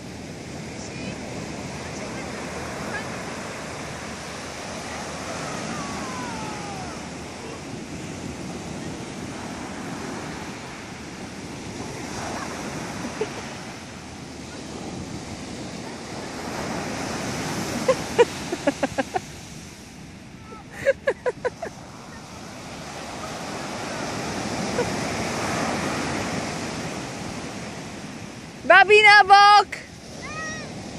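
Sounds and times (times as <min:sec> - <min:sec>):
ocean surf breaking: 0:00.0 - 0:30.9.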